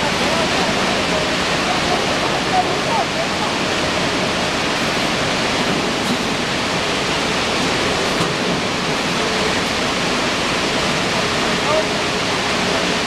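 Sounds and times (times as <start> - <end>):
machinery rushing noise: 0.0 - 13.0.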